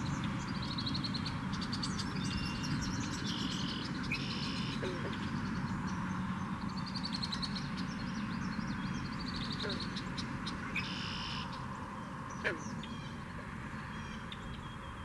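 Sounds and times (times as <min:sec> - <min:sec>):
marsh birds chirping: 0:00.0 - 0:15.0.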